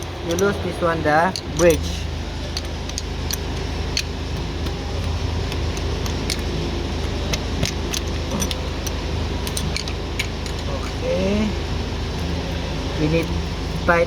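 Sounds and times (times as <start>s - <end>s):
hand tools clicking on metal: 0.0s - 11.3s
low background hum: 0.0s - 14.0s.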